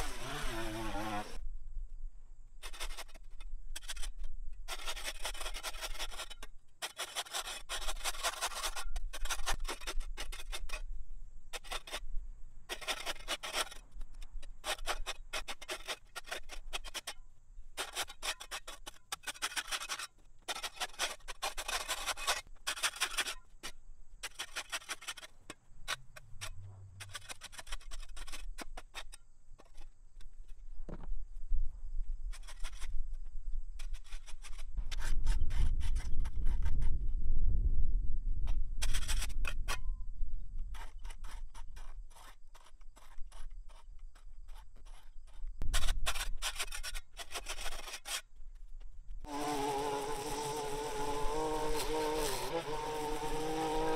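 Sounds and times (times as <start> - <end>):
hand tool scraping ground: 0.0 - 1.4, 2.6 - 31.1, 32.1 - 37.0, 38.4 - 53.9.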